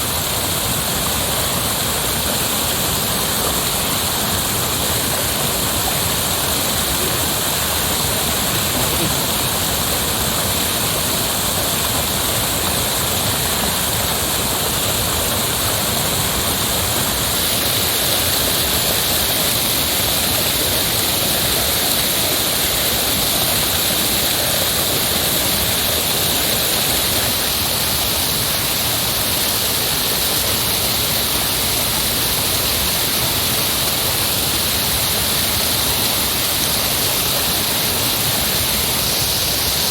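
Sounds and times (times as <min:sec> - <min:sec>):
heavy rushing water: 0:00.0 - 0:39.9.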